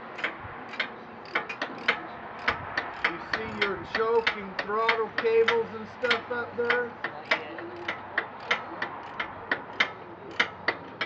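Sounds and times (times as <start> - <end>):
socket ratchet clicking: 0.1 - 11.0.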